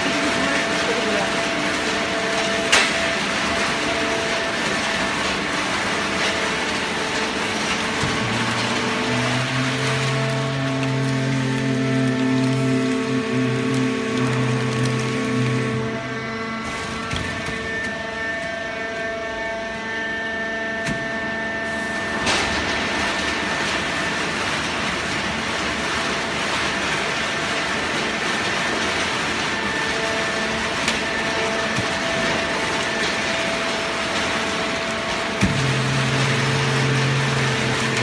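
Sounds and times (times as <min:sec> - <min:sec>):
baler machine hum: 0:00.0 - 0:38.0.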